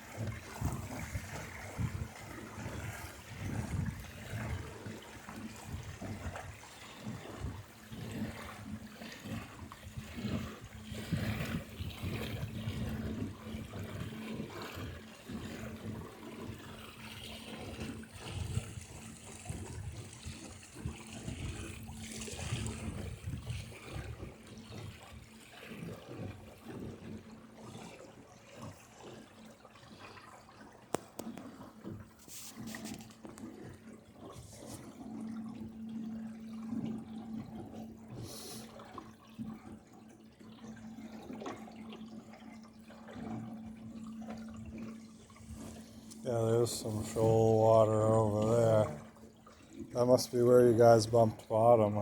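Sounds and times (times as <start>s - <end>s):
water gurgling against hull: 0.0s - 52.0s.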